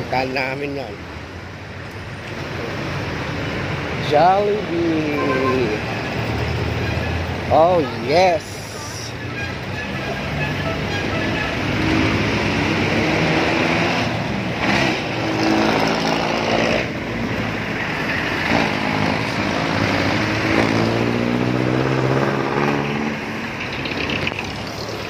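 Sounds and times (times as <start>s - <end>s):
road noise: 0.0s - 25.0s
vehicle engines passing: 0.0s - 25.0s.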